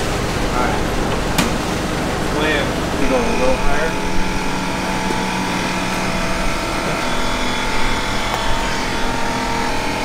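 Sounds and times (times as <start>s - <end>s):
machine hum with thin tones: 0.0s - 10.0s.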